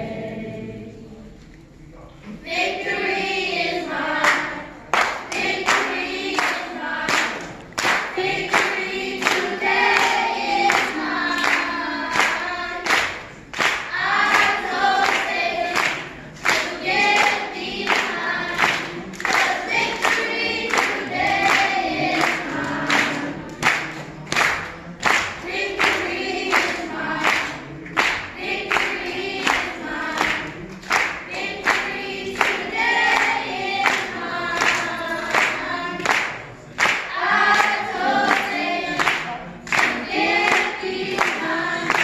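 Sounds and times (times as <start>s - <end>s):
children's choir singing: 0.0s - 42.0s
handclaps: 4.2s - 42.0s.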